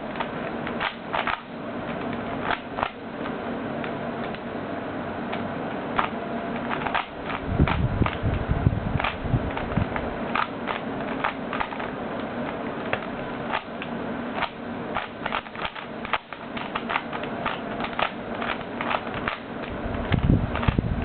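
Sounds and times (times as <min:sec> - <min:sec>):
puzzle cube clicking: 0:00.0 - 0:04.4, 0:06.0 - 0:20.8.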